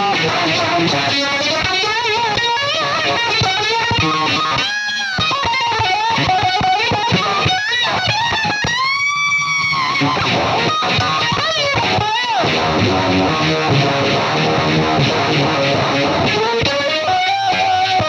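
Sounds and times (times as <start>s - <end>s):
distorted electric guitar lead: 0.0s - 18.0s.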